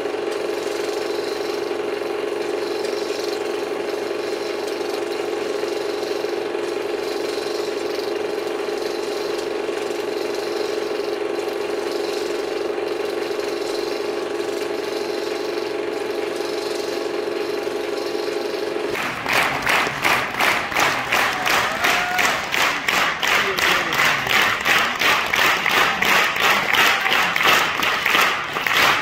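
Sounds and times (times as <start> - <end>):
projector humming: 0.0 - 29.0.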